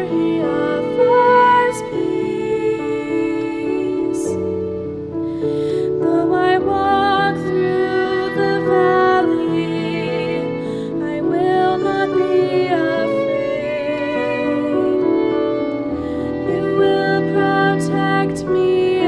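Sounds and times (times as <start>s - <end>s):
bowed violin with vibrato: 0.0s - 19.0s
piano chords: 0.0s - 19.0s
young woman singing: 0.0s - 19.0s.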